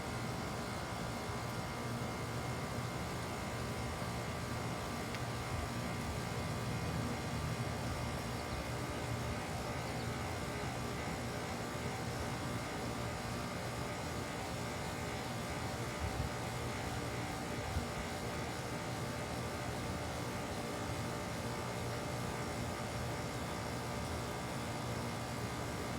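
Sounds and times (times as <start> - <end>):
heat pump humming: 0.0 - 25.9.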